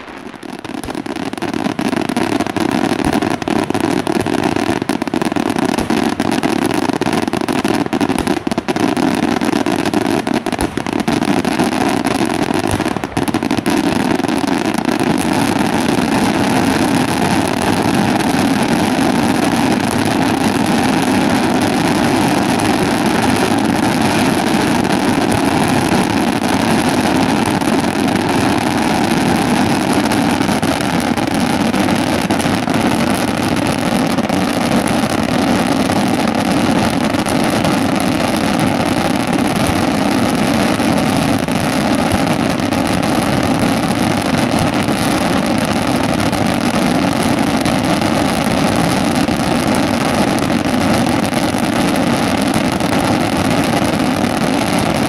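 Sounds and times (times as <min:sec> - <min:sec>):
fireworks barrage crackling: 0:00.0 - 0:55.0.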